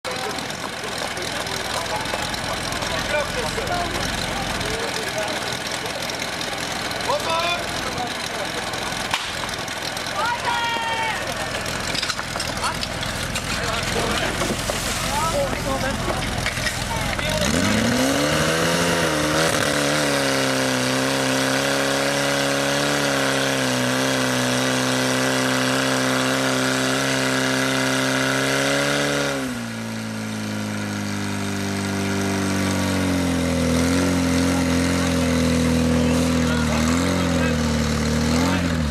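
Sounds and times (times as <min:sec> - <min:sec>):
pump engine running at high revs: 0:00.0 - 0:38.9.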